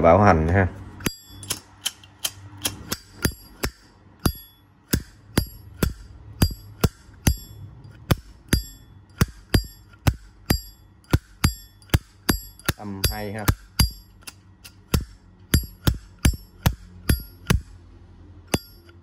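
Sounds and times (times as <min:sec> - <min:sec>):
metallic ring of lighter: 0:01.0 - 0:14.9, 0:15.5 - 0:17.6, 0:18.5 - 0:19.0.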